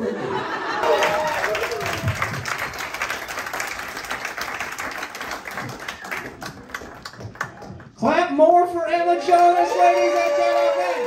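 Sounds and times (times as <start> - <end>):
audience applauding: 0.6 - 8.0, 9.2 - 11.0.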